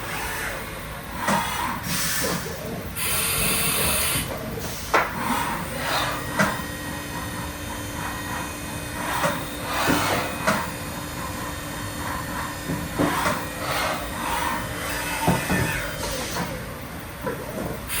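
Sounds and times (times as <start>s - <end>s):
machine whine: 0.0s - 18.0s.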